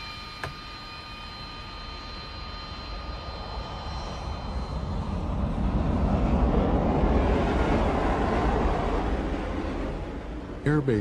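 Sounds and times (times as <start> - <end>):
jet aircraft rumble: 0.0 - 11.0
jet engine high whine: 0.0 - 11.0.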